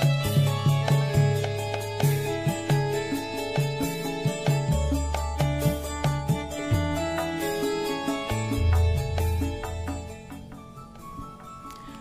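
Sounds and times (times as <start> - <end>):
plucked instrumental music: 0.0 - 12.0.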